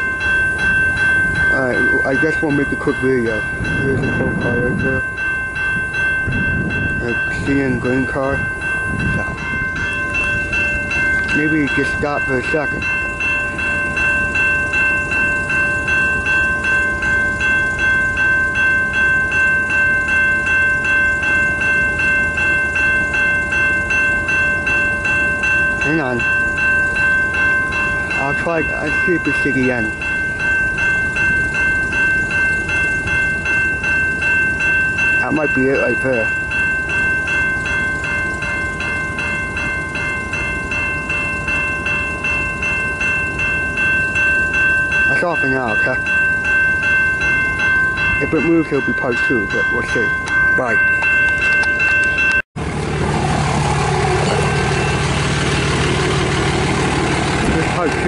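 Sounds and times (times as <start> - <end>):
crossing warning bell ringing: 0.0 - 58.0
freight train low rumble: 0.0 - 58.0.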